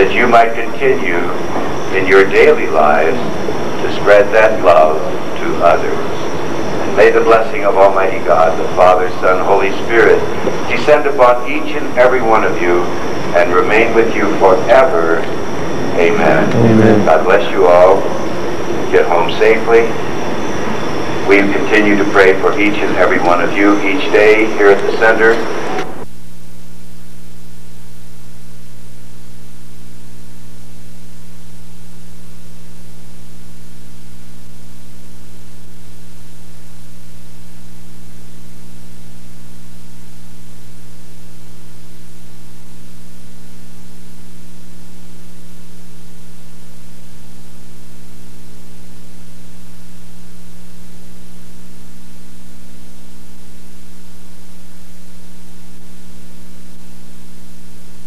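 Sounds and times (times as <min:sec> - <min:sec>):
electrical mains hum: 0:00.0 - 0:58.0
tape hiss: 0:00.0 - 0:58.0.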